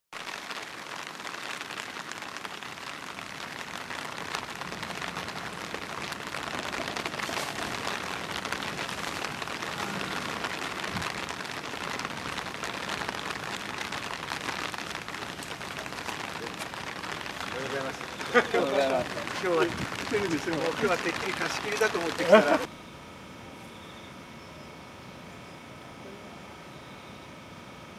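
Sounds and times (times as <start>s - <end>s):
steady rain falling: 0.1s - 22.7s.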